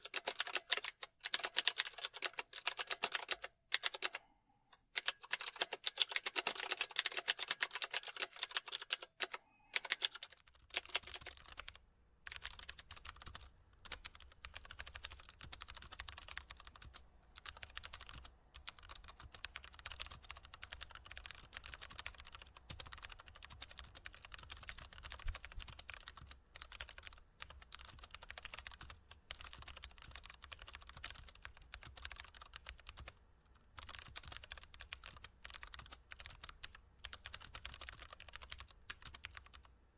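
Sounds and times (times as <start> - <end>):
keyboard typing: 0.0 - 39.7.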